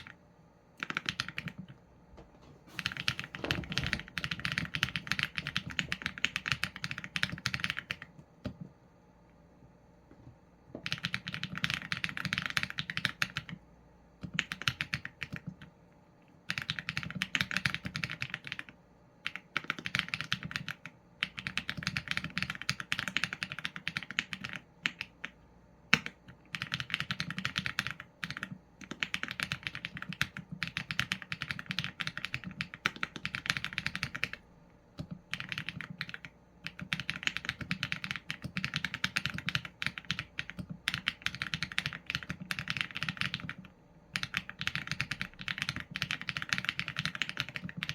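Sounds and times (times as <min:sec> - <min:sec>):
mechanical keyboard typing: 0:00.8 - 0:01.8, 0:02.7 - 0:08.7, 0:10.8 - 0:13.6, 0:14.2 - 0:15.7, 0:16.4 - 0:47.9.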